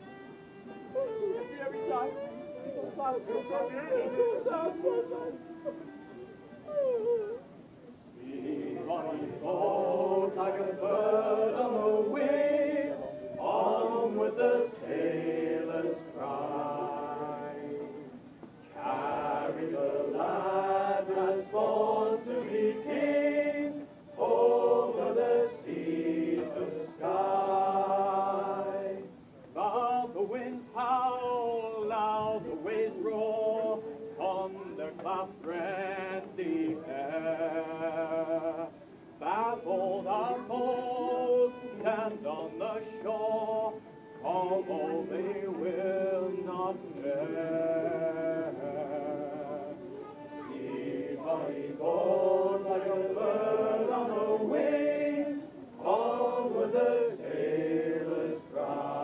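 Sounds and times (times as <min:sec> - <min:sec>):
men singing unaccompanied: 0:08.1 - 0:59.0.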